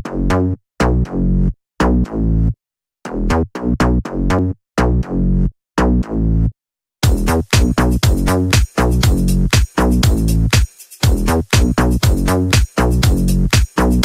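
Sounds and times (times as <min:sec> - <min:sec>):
chopped synthesizer electronic music: 0:00.0 - 0:14.0.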